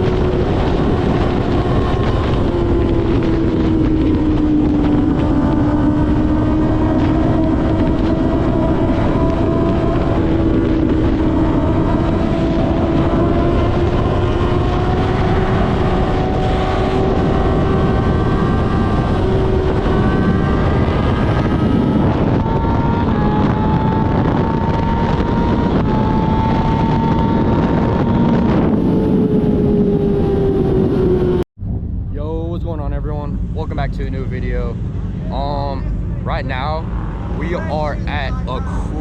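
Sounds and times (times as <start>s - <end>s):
motorcycle engine at high revs: 0.0s - 31.4s, 35.2s - 39.0s
wind rushing on microphone: 0.0s - 39.0s.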